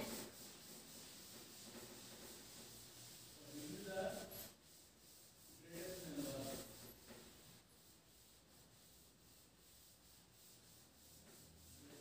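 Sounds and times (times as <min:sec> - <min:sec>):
duster rubbing on chalkboard: 0:00.0 - 0:12.0.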